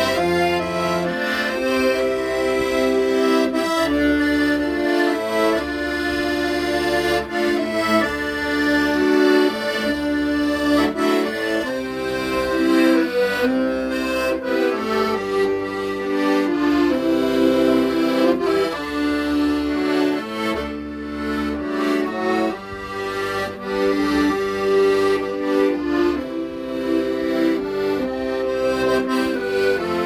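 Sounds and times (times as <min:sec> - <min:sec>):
accordion playing slow melody: 0:00.0 - 0:30.0.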